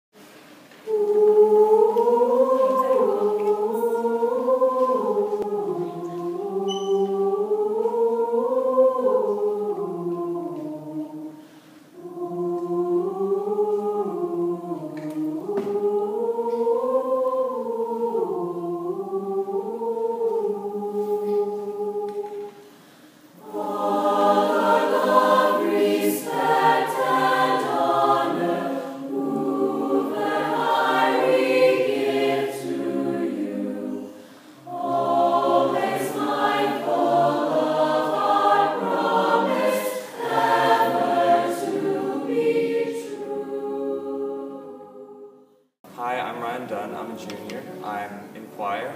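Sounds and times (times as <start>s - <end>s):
choir singing: 0.8s - 48.9s.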